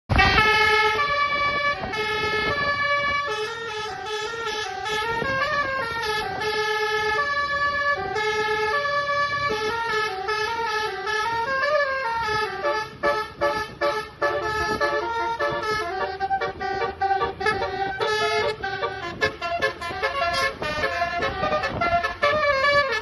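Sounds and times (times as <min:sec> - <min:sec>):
musical air horn playing a tune: 0:00.1 - 0:23.0.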